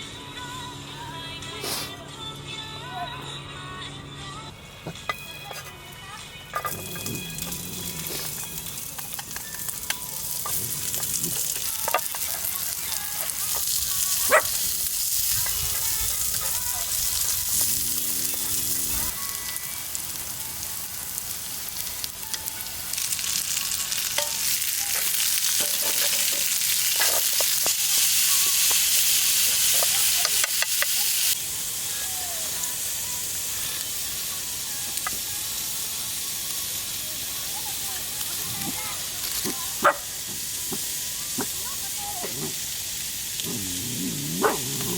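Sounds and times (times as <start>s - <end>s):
food sizzling in a pan: 6.6s - 44.9s.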